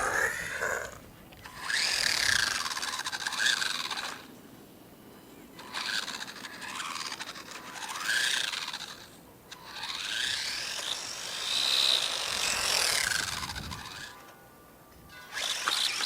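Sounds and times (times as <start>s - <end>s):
electric toy truck motor whining: 0.0s - 4.3s, 5.6s - 14.4s, 15.1s - 16.0s.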